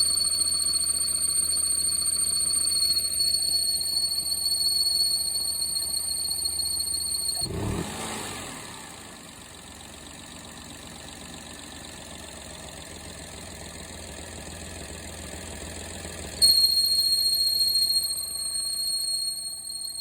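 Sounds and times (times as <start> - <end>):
car engine idling: 0.0 - 19.6.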